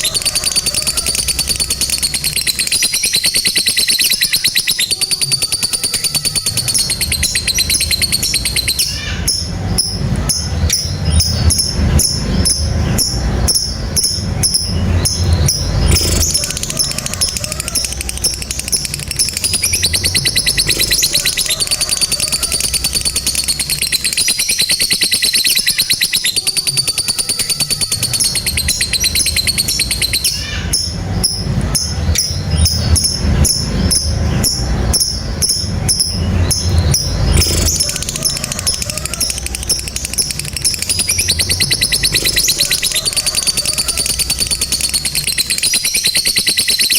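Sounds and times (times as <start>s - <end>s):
lovebird high chattering trills: 0.0s - 46.9s.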